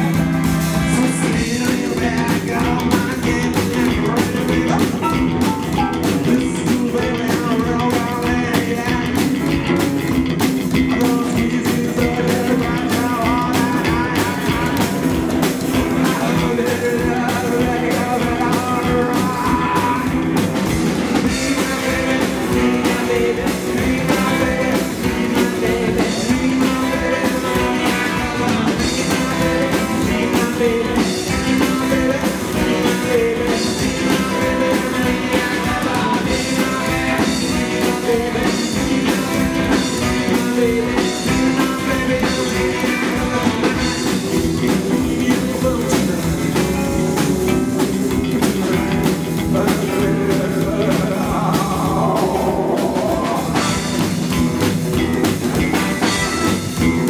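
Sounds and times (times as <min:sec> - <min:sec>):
drums: 0:00.0 - 0:57.0
electric guitars: 0:00.0 - 0:57.0
upright double bass: 0:00.0 - 0:57.0.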